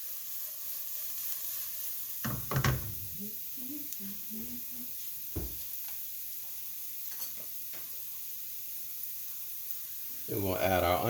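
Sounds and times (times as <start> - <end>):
garlic and ginger sizzling in a pan: 0.0 - 11.0.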